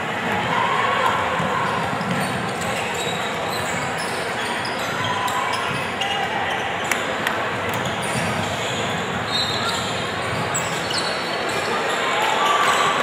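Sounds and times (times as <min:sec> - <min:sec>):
spectators chattering: 0:00.0 - 0:13.0.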